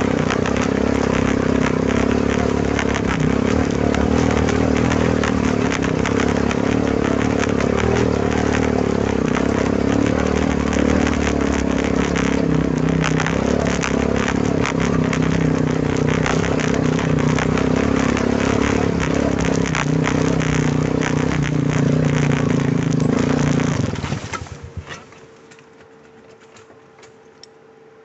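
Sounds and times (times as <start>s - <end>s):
quad bike engine running: 0.0s - 25.0s
rattling and crackling clicks: 0.0s - 27.5s.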